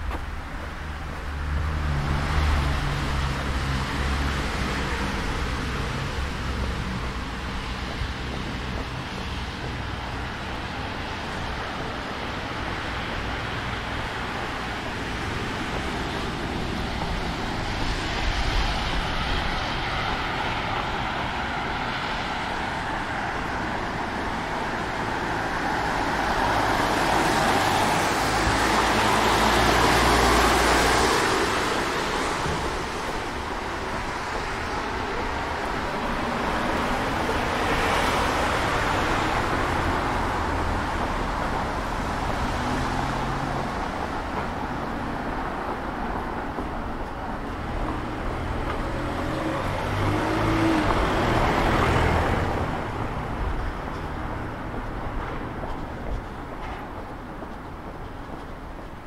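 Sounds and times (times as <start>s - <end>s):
cars driving past: 0.0s - 59.0s.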